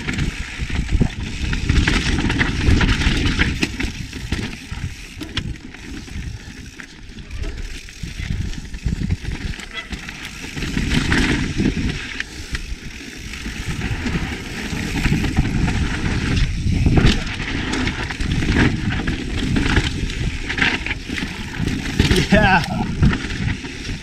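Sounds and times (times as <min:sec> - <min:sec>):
bike rattling clicks and knocks: 0:00.0 - 0:24.0.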